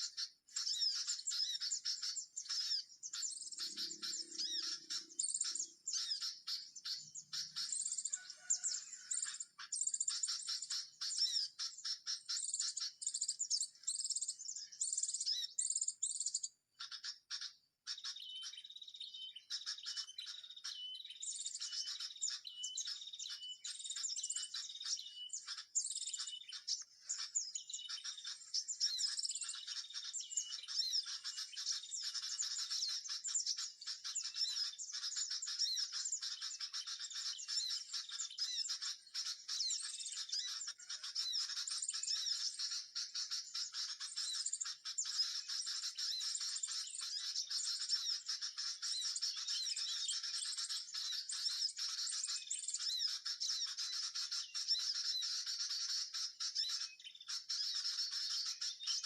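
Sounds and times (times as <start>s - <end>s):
songbirds chirping chorus: 0.0s - 59.0s.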